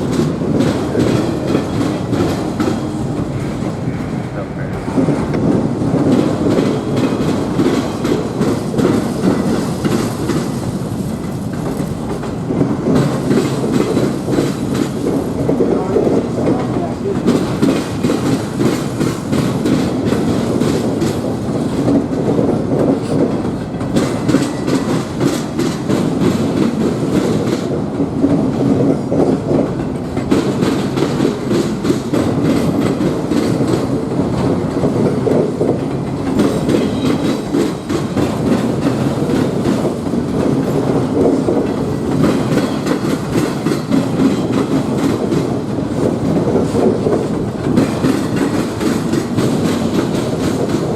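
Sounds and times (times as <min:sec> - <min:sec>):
train wheels clacking over rail joints: 0:00.0 - 0:50.9.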